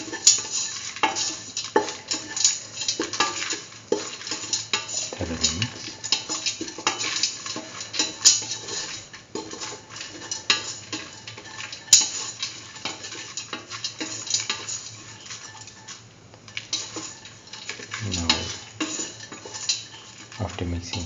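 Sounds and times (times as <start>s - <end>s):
utensil stirring in metal pan: 0.0s - 21.0s.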